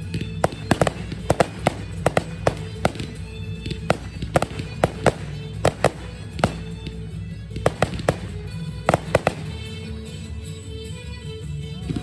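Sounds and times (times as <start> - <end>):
fireworks bursting: 0.0 - 9.8
steady music: 0.0 - 12.0.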